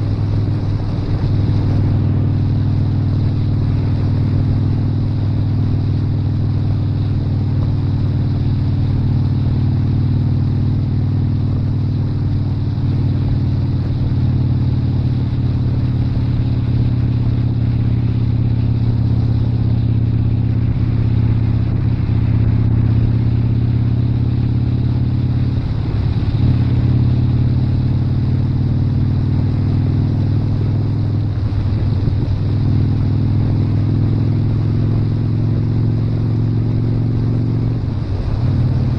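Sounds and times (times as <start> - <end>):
motorcycle engine cruising: 0.0 - 38.9
road and wind noise: 0.0 - 38.9.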